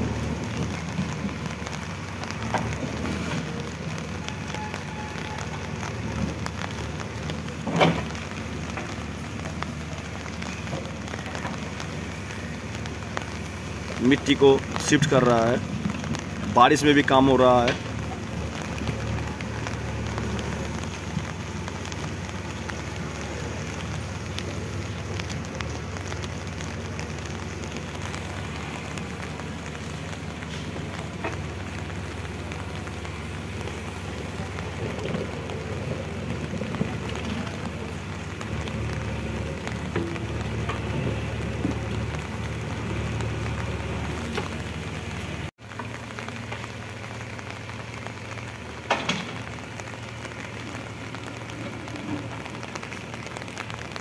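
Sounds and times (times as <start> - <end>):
diesel engine running: 0.0 - 54.0
rain pattering on puddles: 0.0 - 54.0.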